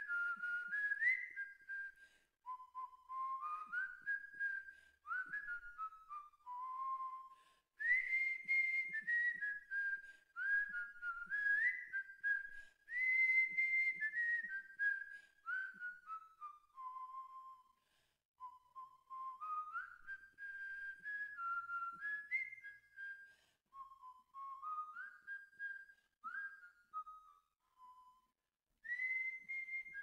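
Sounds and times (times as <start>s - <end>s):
person whistling a melody: 0.0s - 30.0s.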